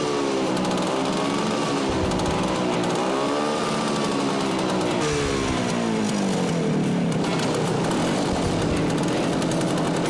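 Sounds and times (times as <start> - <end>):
scooter engine revving: 0.0 - 10.0.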